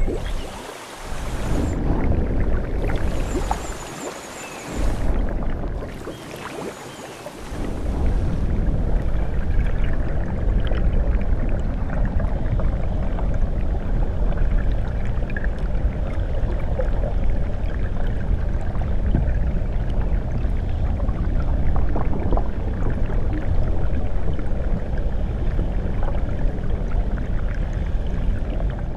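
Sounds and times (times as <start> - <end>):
stream water rushing and bubbling: 0.0 - 28.9.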